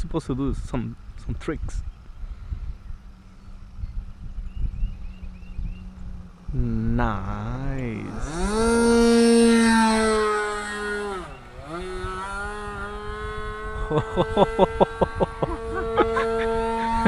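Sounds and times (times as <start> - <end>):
model airplane engine: 0.5 - 17.0.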